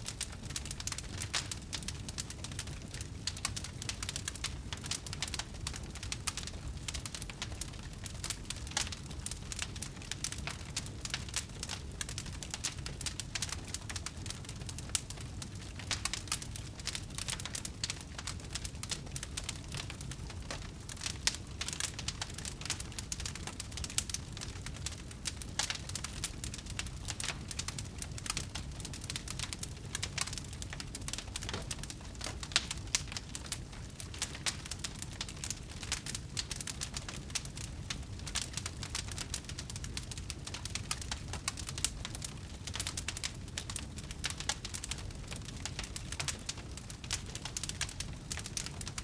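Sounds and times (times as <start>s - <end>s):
low rumble of flames: 0.0s - 49.0s
wood fire crackling and popping: 0.0s - 49.0s.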